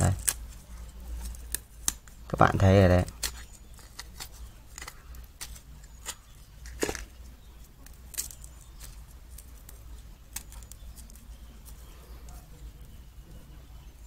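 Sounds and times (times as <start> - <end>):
plastic film crinkling: 0.0 - 12.9.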